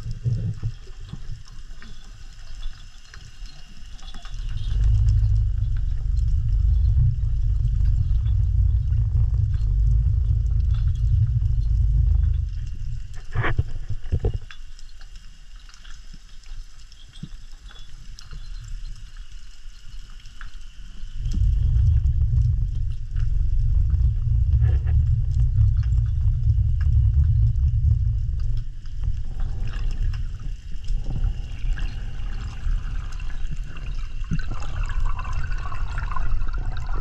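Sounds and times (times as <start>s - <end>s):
faint crackling clicks: 0.0s - 36.0s
underwater rumble of moving water: 0.0s - 37.0s.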